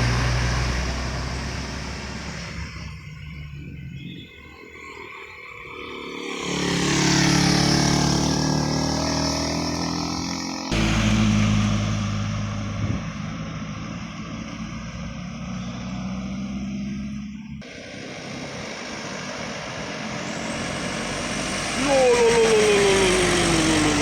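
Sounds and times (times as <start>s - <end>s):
heavy diesel engines working: 0.0s - 4.0s, 6.2s - 24.0s.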